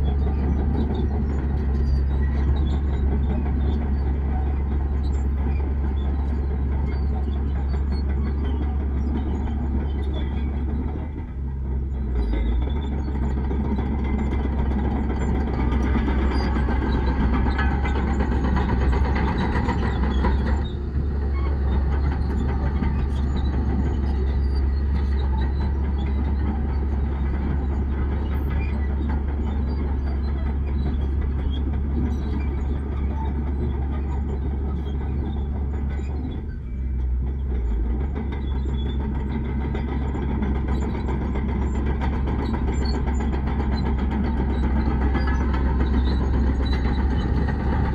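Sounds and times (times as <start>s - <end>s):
heavy diesel machinery rumbling: 0.0s - 47.9s.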